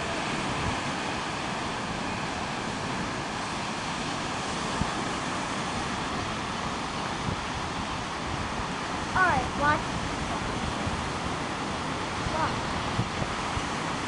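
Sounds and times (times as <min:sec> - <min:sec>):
surf washing onto a beach: 0:00.0 - 0:14.0
wind buffeting the microphone: 0:00.0 - 0:14.0.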